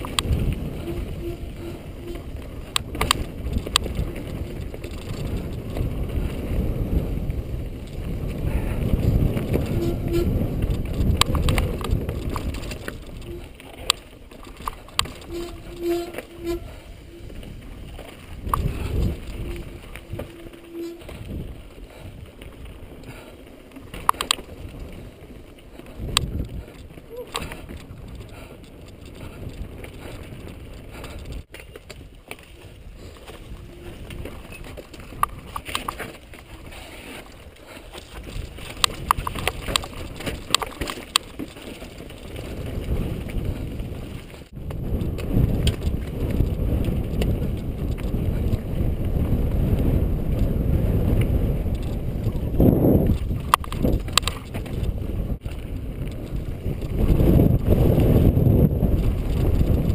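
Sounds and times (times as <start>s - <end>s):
bike clicking and rattling over rock: 0.0s - 59.9s
wind rumbling on microphone: 0.0s - 59.9s.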